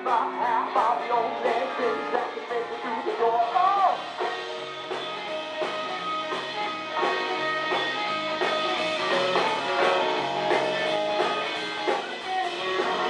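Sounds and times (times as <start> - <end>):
electric guitar: 0.0 - 13.0
live soul band playing: 0.0 - 13.0.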